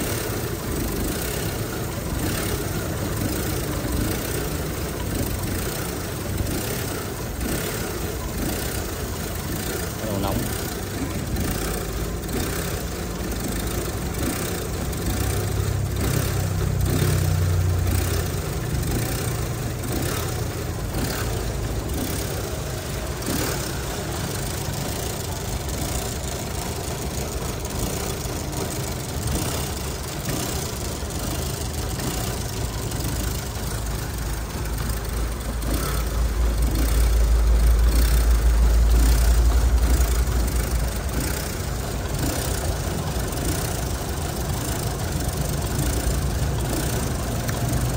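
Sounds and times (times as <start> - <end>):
car engine idling unevenly: 0.0 - 47.9.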